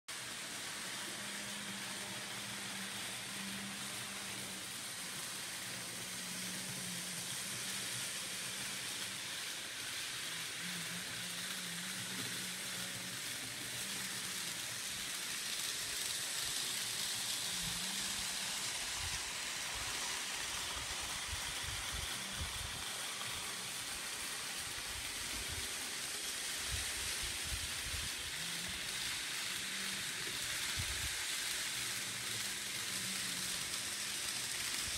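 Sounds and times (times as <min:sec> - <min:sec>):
model train running on track: 0:00.1 - 0:34.9.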